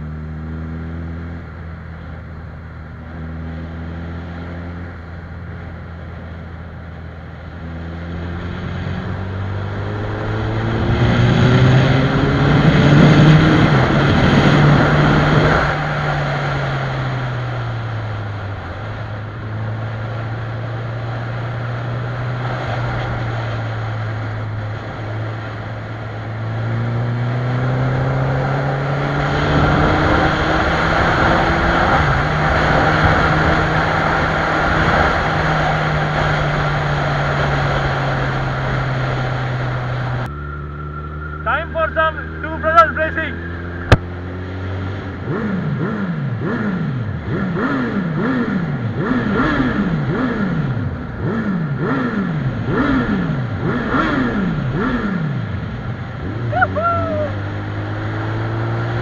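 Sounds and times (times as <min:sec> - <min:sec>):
motorcycle engine at speed: 0:00.0 - 0:59.0.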